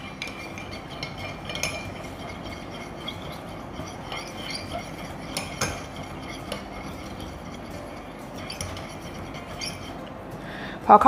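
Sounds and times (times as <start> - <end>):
spoon clinking against cup: 0.0 - 10.0
teaspoon stirring in a cup: 0.0 - 10.3.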